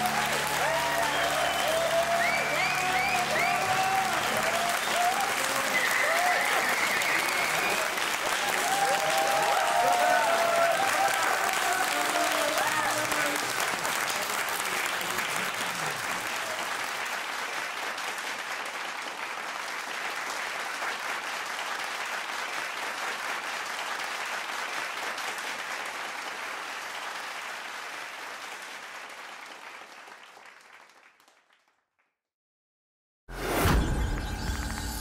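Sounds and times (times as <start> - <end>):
audience applauding: 0.0 - 31.8.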